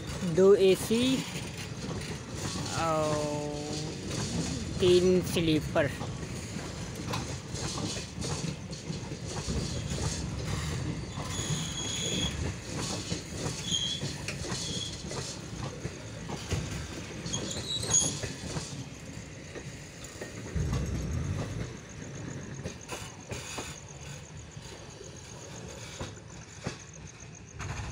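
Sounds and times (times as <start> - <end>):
train coaches rumbling past: 0.0 - 27.9
wheels clicking over rail joints: 0.0 - 27.9.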